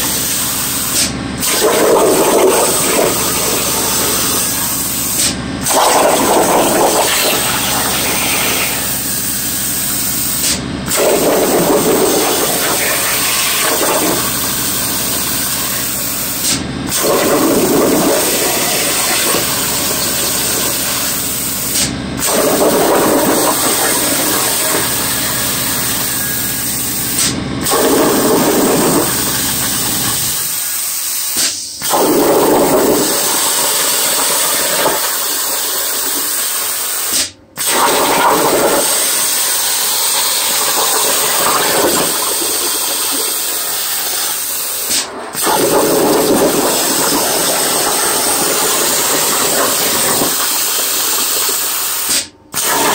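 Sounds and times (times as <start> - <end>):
plasma torch cutting metal: 0.0 - 52.9.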